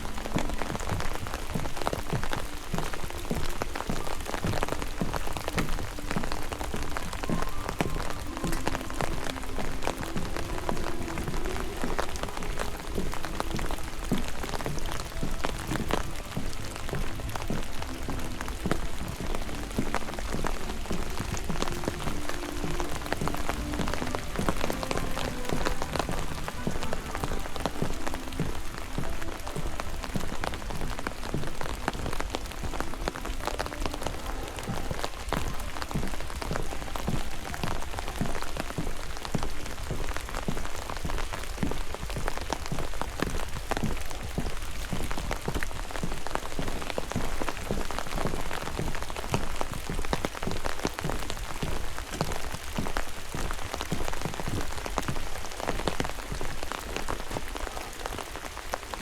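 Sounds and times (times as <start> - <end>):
rain drops striking close: 0.0 - 59.0.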